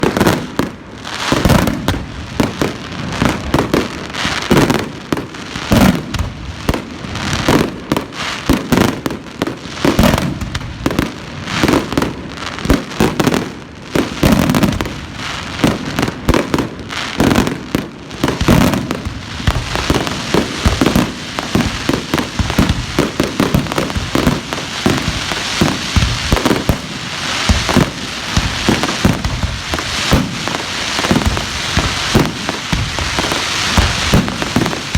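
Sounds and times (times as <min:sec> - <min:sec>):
fireworks bangs and booms: 0:00.0 - 0:34.9.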